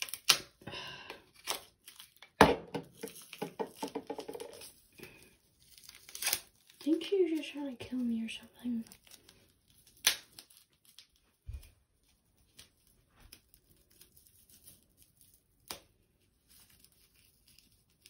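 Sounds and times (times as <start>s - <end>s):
faint crinkling: 3.0s - 18.0s.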